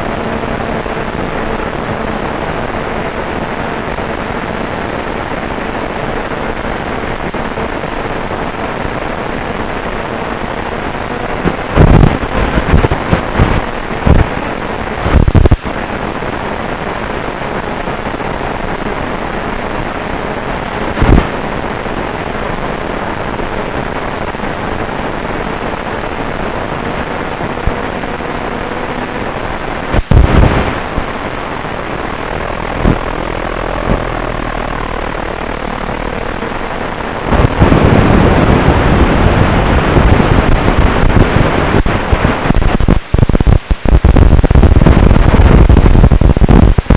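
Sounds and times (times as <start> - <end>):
loud crackles: 0.0 - 46.9
loud static: 0.0 - 46.9
video link audio hiss: 0.0 - 46.9.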